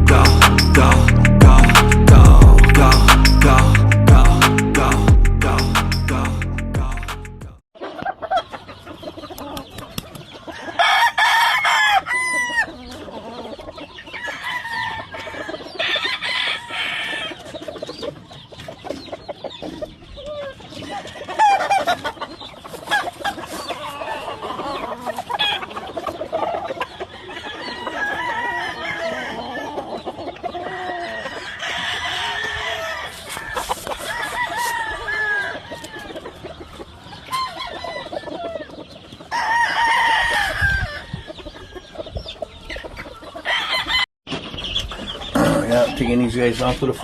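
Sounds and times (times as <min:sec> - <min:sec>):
roosters crowing: 0:00.0 - 0:06.3, 0:07.8 - 0:18.3, 0:19.5 - 0:44.1, 0:45.2 - 0:47.0
chickens clucking: 0:07.8 - 0:47.0.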